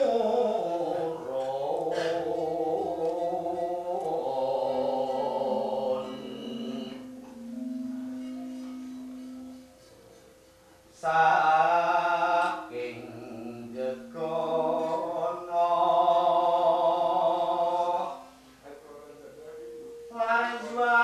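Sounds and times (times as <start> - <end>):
gamelan tone: 0.0 - 21.0.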